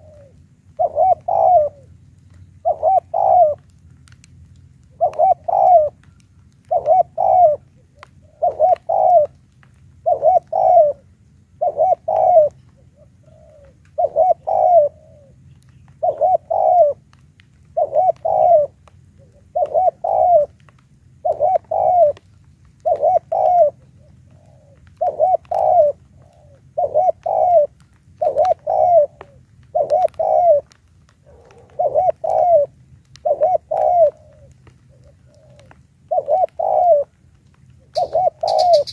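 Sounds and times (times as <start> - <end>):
dove cooing: 0.0 - 4.2, 4.8 - 38.9.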